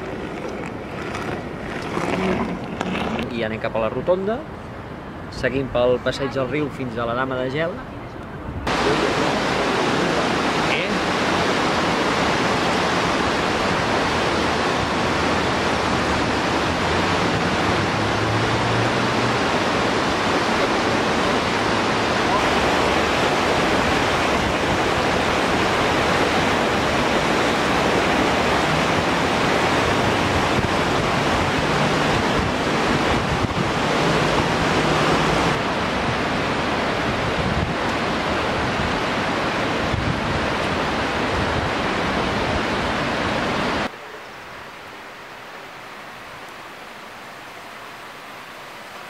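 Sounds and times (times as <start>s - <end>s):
river water rushing: 0.0s - 7.3s, 8.6s - 49.0s.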